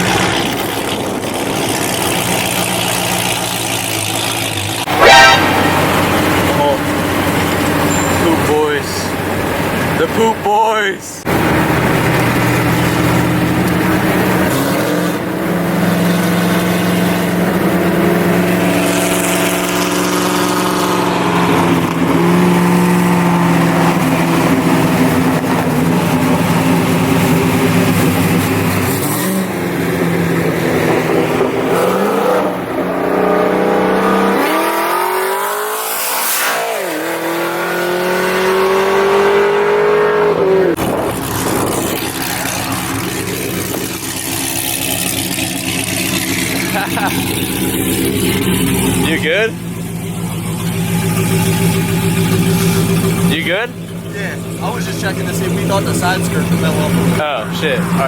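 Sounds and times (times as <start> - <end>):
car engine accelerating hard: 0.0 - 10.5, 11.2 - 58.0.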